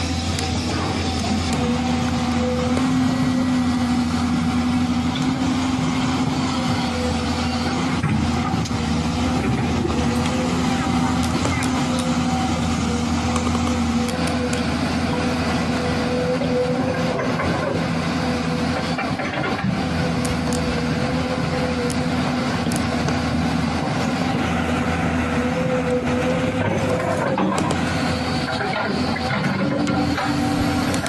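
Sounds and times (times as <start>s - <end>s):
motor humming: 0.0s - 31.0s.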